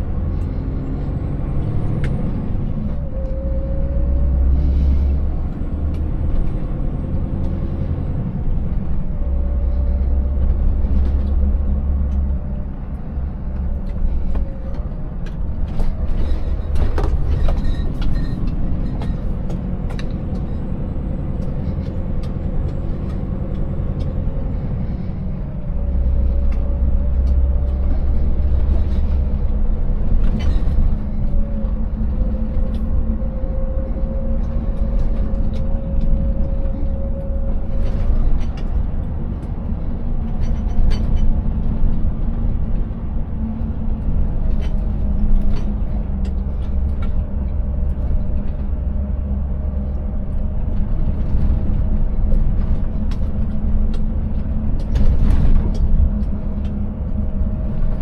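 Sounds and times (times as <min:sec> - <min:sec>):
truck engine drone: 0:00.0 - 0:58.0.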